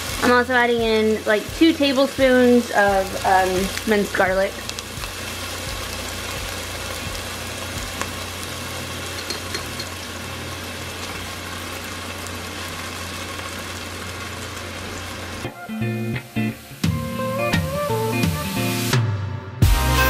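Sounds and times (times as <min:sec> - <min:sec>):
onion and garlic sizzling in oil: 0:00.0 - 0:18.9.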